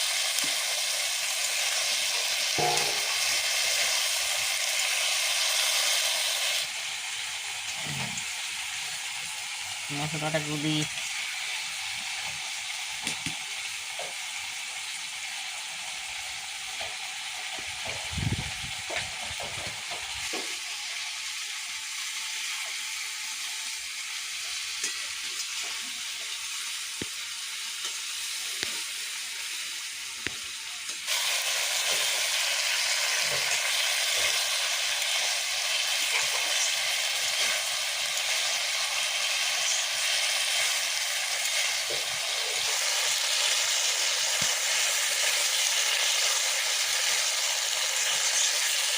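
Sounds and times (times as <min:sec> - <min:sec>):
food sizzling in hot oil: 0:00.0 - 0:48.9.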